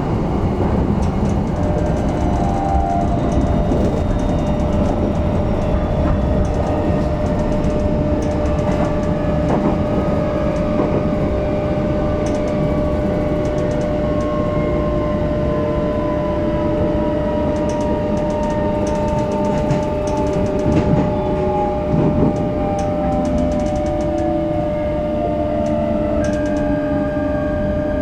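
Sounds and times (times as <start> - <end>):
electric train running whine: 0.0 - 28.0
traction motor tone falling in pitch: 1.1 - 28.0.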